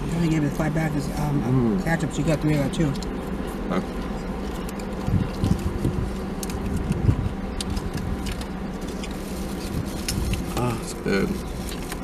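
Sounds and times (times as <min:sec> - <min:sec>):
car cabin low hum: 0:00.0 - 0:12.0
soft chewing: 0:02.2 - 0:12.0.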